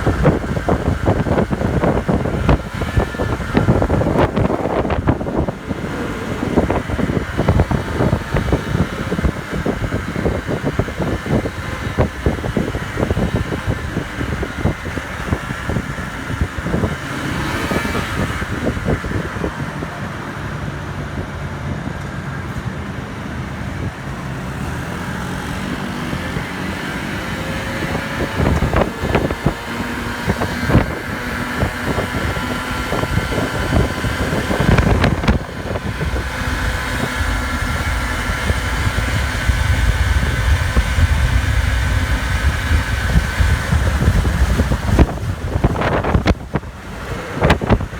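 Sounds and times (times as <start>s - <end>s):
moped engine whining: 0.0s - 47.9s
wind buffeting microphone: 0.0s - 47.9s.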